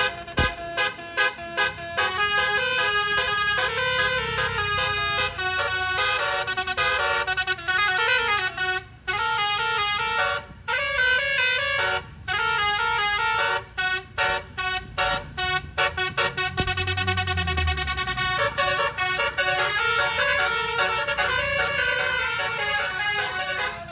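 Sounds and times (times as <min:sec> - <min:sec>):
bus horn playing a tune: 0:00.0 - 0:23.9.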